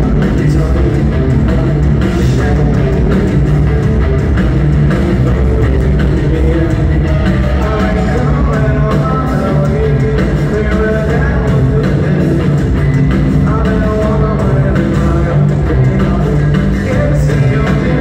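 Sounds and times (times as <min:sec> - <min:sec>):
live rock band playing loudly: 0:00.0 - 0:18.0.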